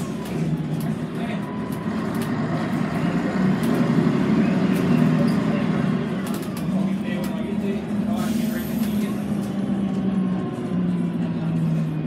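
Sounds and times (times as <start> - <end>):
bus diesel engine humming: 0.0 - 12.0.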